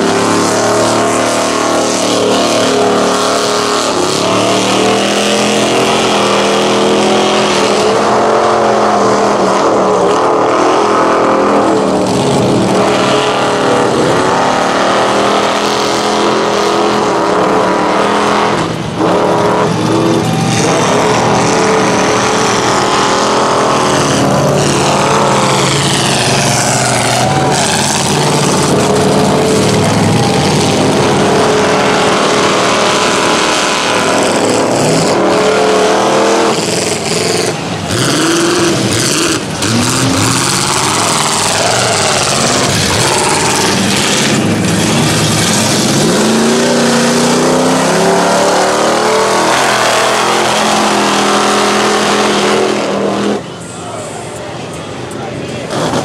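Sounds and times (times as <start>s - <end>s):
tires churning through mud: 0.0s - 56.0s
truck engines revving: 0.0s - 56.0s
truck passing close: 0.0s - 56.0s.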